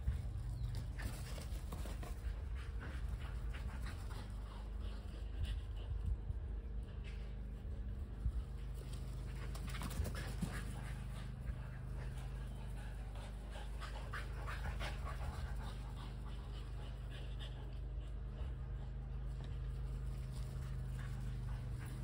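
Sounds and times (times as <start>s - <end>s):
dogs panting: 0.0s - 22.0s
steady low hum: 0.0s - 22.0s.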